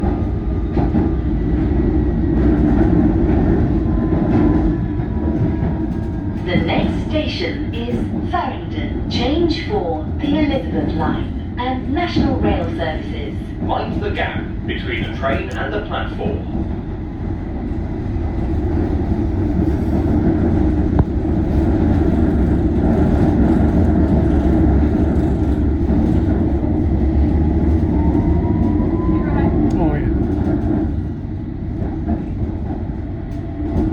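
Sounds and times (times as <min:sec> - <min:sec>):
train wheels rumbling: 0:00.0 - 0:33.9.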